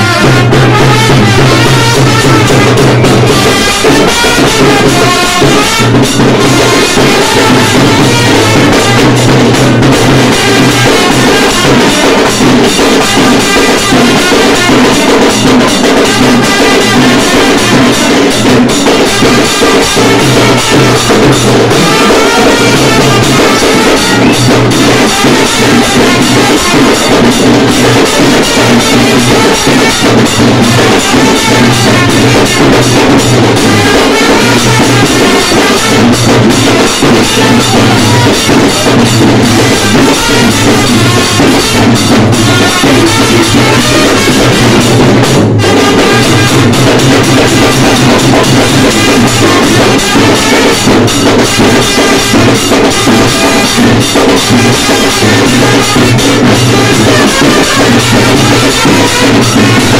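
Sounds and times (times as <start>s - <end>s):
loud dance music with drums: 0.0s - 59.9s.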